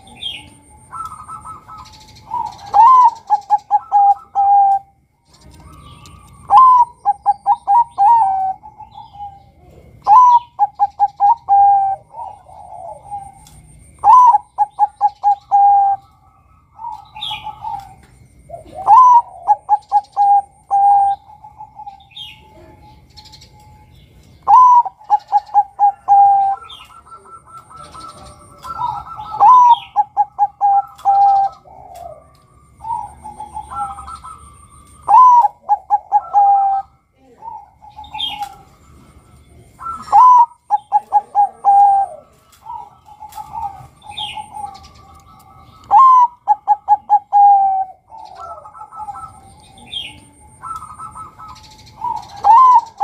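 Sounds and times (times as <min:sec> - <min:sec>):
dove cooing: 0:00.0 - 0:53.0
small birds chirping: 0:00.0 - 0:53.0.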